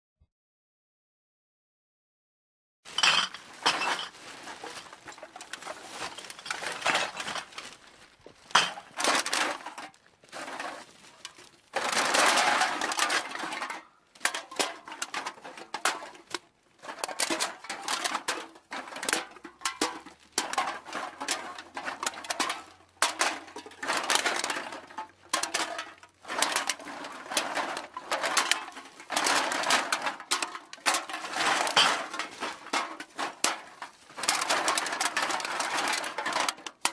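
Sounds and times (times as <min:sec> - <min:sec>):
aluminium cans clattering: 0:02.9 - 0:07.8, 0:08.5 - 0:36.9.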